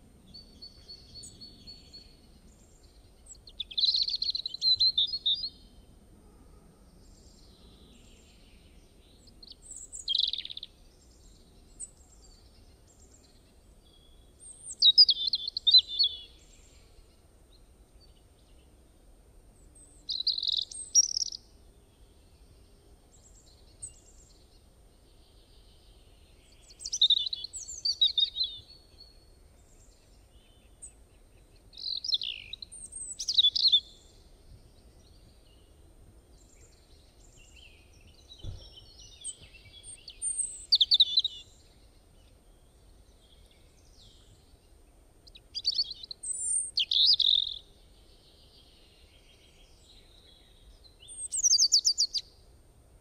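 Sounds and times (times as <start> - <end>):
bird chirping: 0.3 - 5.8, 7.0 - 18.8, 19.6 - 52.4.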